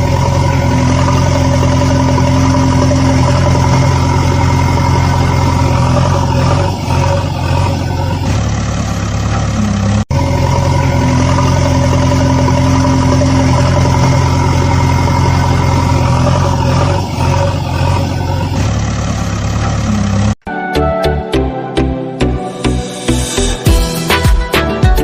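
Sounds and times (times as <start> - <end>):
engine idling: 0.0 - 20.4.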